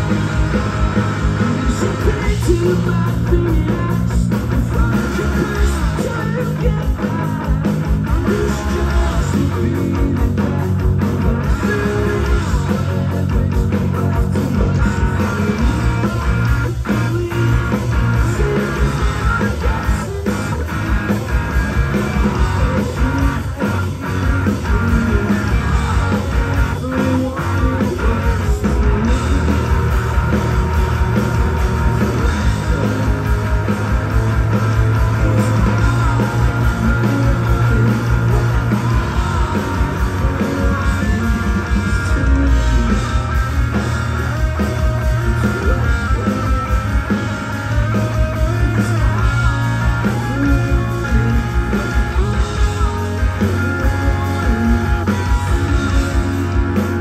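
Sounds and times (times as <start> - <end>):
person singing lead vocal: 0.0 - 57.0
rock band playing live: 0.0 - 57.0.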